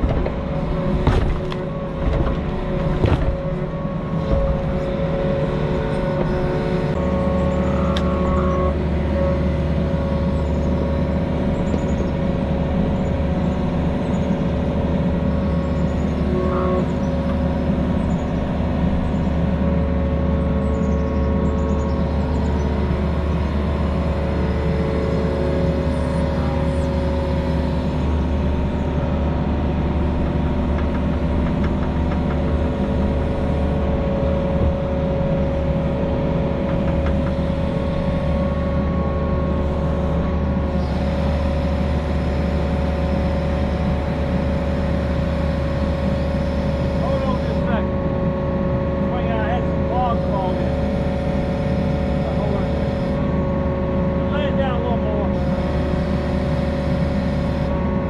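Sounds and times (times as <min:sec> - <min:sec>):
deep low drone: 0:00.0 - 0:58.0
diesel engine running: 0:00.0 - 0:58.0.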